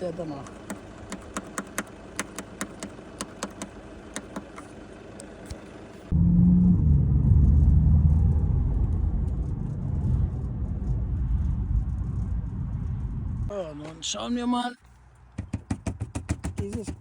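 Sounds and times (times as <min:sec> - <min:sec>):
car driving rumble: 0:00.0 - 0:16.1.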